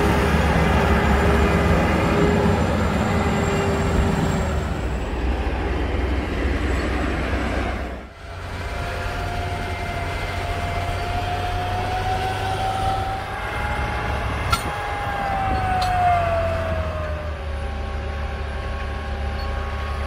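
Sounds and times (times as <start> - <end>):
farm machinery engine drone: 0.0 - 20.0.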